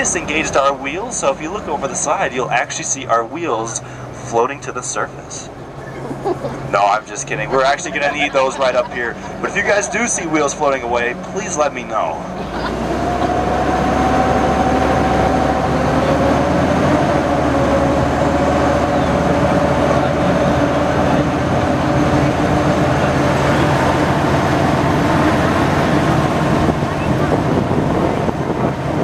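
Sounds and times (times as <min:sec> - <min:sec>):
amphibious truck engine droning: 0:00.0 - 0:29.0.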